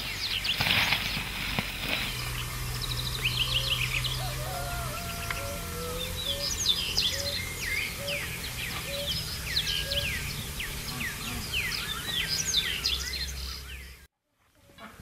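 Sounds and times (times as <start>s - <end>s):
low steady hum: 0.0s - 14.1s
many birds chirping: 0.0s - 15.0s.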